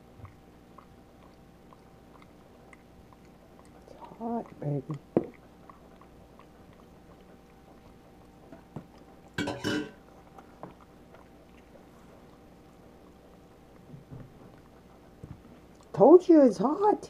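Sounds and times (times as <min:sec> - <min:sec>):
monkey chewing food: 0:00.0 - 0:16.3.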